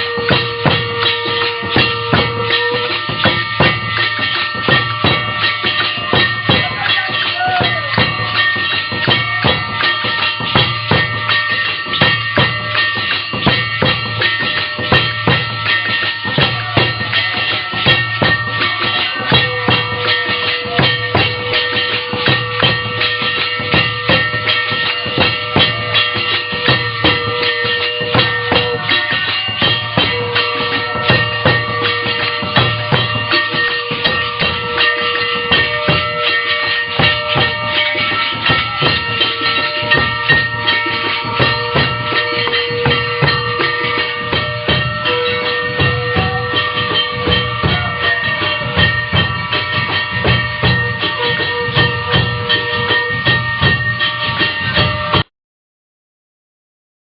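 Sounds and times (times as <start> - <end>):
long held instrumental notes: 0.0 - 55.2
steady drum beat: 0.0 - 55.2.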